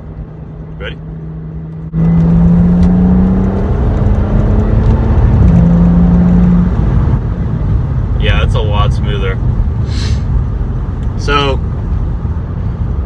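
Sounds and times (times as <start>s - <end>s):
car engine accelerating hard: 1.2s - 13.0s.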